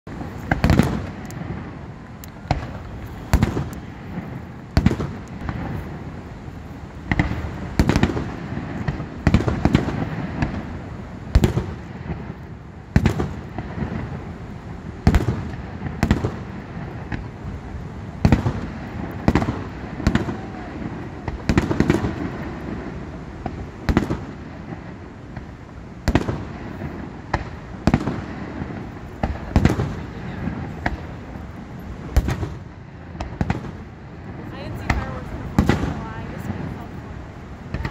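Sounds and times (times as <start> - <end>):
fireworks bursting with bangs: 0.1 - 37.9.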